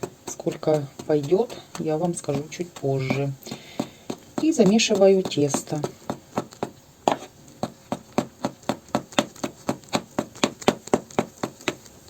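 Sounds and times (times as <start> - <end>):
utensil knocking against bowl: 0.0 - 11.8.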